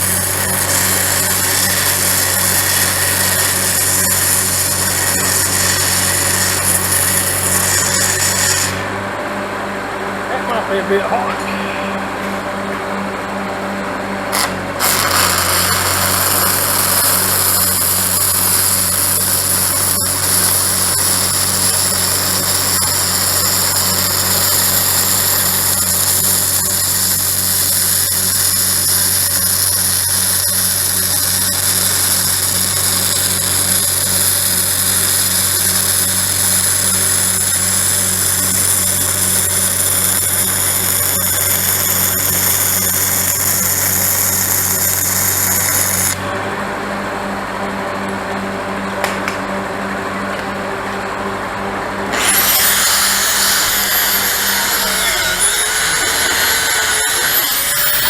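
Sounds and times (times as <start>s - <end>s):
welding arc hissing: 0.0s - 8.8s, 14.3s - 46.2s, 52.2s - 58.0s
welder engine pulsing: 0.0s - 58.0s.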